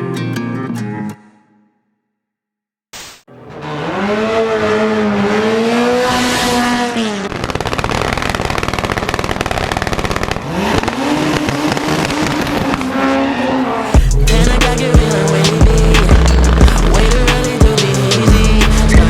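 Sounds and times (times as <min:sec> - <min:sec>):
racing engine revving: 0:03.3 - 0:19.0
engine stuttering pulses: 0:03.4 - 0:19.0.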